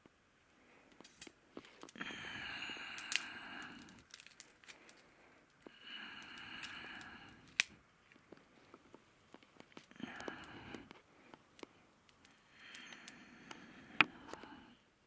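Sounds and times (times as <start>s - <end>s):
wood fire crackling and popping: 0.0s - 14.6s.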